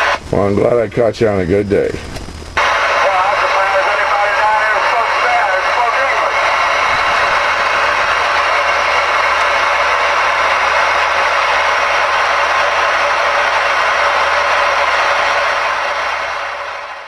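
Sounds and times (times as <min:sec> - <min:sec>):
radio static hiss: 0:00.0 - 0:14.9.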